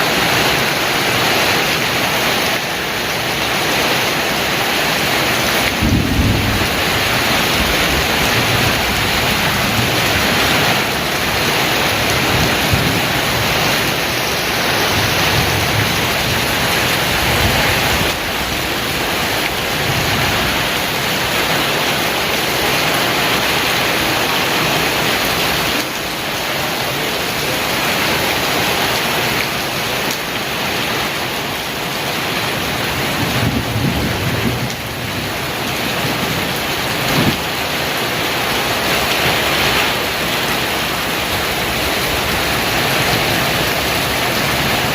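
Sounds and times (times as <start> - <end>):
heavy rain pouring: 0.0 - 44.9
thunder rumbling: 4.3 - 29.4, 32.0 - 44.9.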